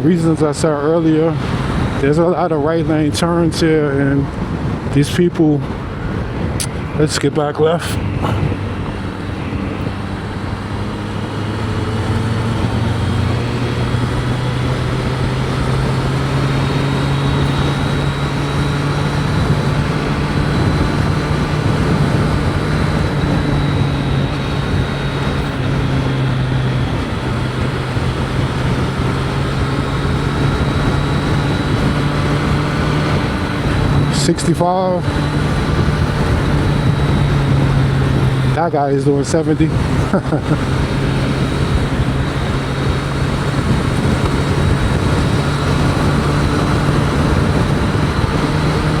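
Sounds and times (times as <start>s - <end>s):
heavy wind noise: 0.0s - 49.0s
motorcycle engine running: 0.0s - 49.0s.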